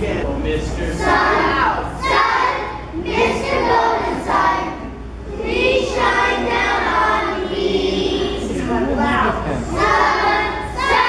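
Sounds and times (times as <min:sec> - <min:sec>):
children singing together: 0:00.9 - 0:11.0.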